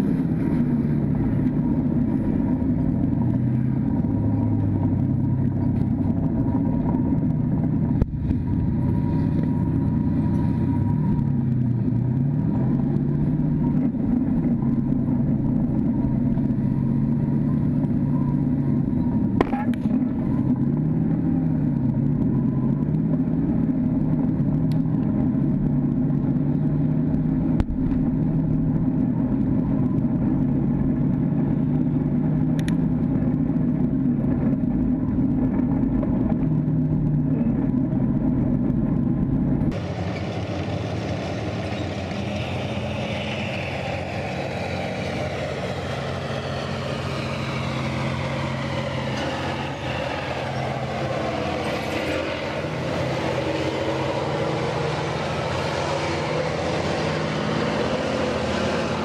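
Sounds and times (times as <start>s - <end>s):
tank diesel engine running hard: 0.0s - 59.0s.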